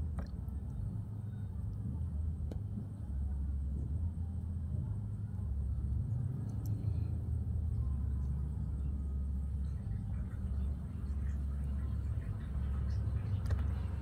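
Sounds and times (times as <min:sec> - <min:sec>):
faint high-pitched whine: 0:00.0 - 0:14.0
low background rumble: 0:00.0 - 0:14.0.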